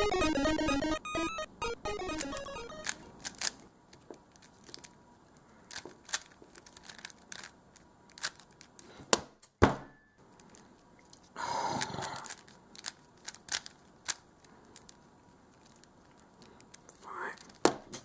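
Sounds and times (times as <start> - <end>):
puzzle cube clicking: 0.1 - 5.0, 5.7 - 8.9, 10.4 - 17.7.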